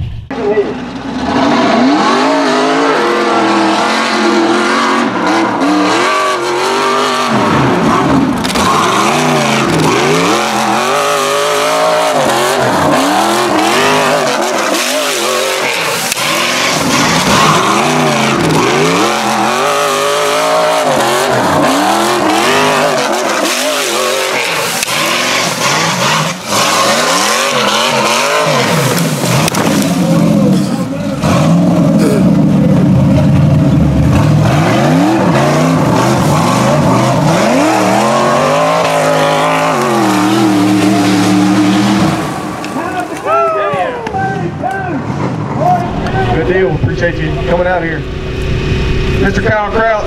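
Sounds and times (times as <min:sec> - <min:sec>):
engine revving hard: 0:01.0 - 0:43.2.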